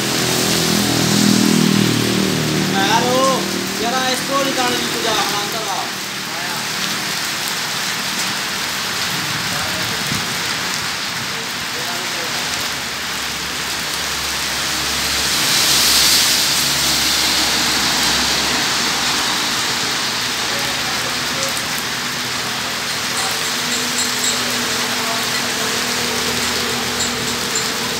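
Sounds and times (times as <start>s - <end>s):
rain falling on wet road: 0.0s - 27.9s.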